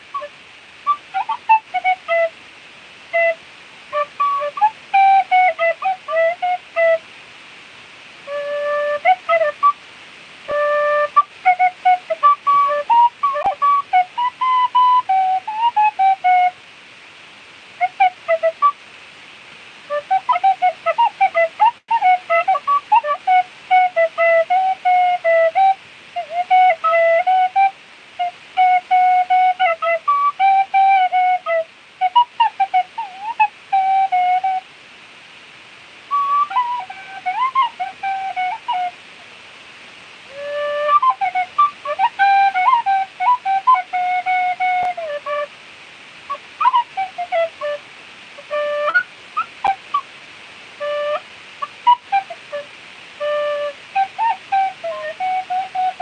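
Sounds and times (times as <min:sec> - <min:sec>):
tin whistle melody: 0:00.0 - 0:02.3, 0:03.1 - 0:07.0, 0:08.2 - 0:09.8, 0:10.5 - 0:16.6, 0:17.8 - 0:18.8, 0:19.9 - 0:34.6, 0:36.1 - 0:39.0, 0:40.3 - 0:45.5, 0:46.3 - 0:47.8, 0:48.4 - 0:50.1, 0:50.8 - 0:56.0.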